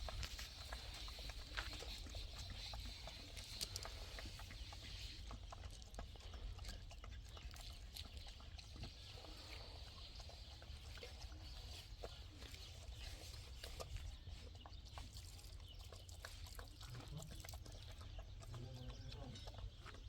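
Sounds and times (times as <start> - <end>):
animal sounds: 0.0 - 20.0.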